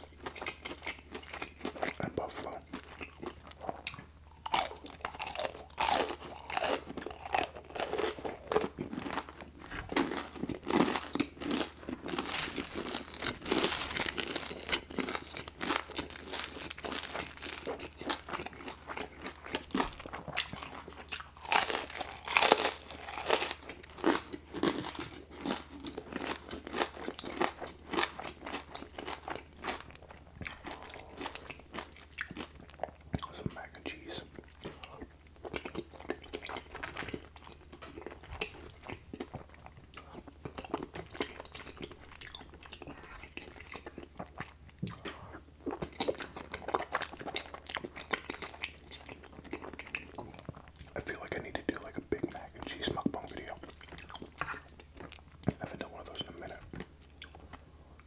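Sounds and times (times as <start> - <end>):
crunching and chewing food: 0.0 - 58.0.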